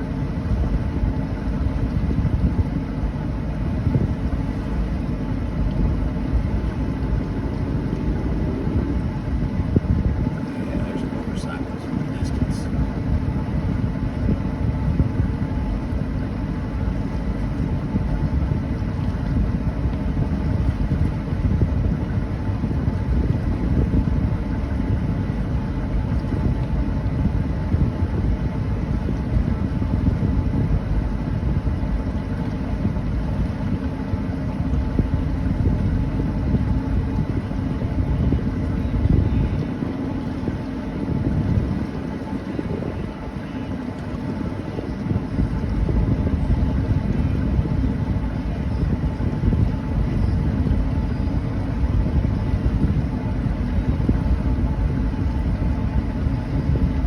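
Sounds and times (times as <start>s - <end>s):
boat engine running: 0.0s - 57.0s
wind rumbling on microphone: 0.0s - 57.0s.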